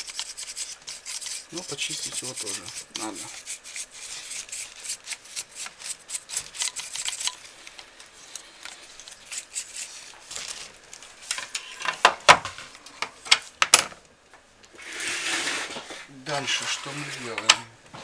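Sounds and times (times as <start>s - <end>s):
brush scraping fan blades: 0.0s - 12.0s, 14.8s - 17.7s.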